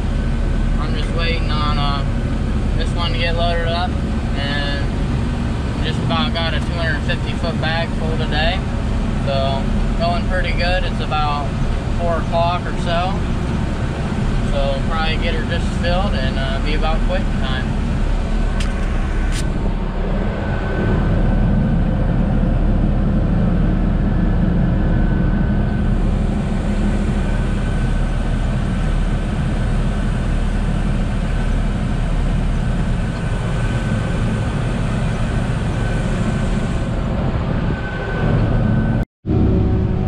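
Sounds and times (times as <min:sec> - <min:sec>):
faint high whine: 0:00.0 - 0:40.0
forage harvester drone: 0:00.0 - 0:40.0
tractor diesel engine running: 0:00.0 - 0:40.0.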